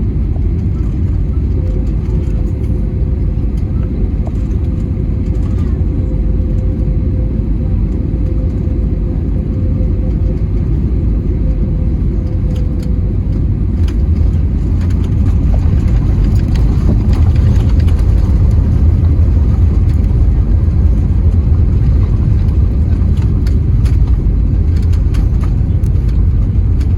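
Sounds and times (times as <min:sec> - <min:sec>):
aircraft cabin engine rumble: 0:00.0 - 0:26.9.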